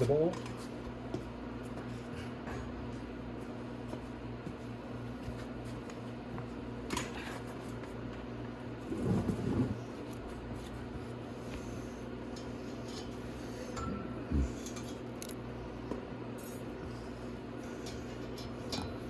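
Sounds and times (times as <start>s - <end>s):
workshop fan hum: 0.0s - 19.0s.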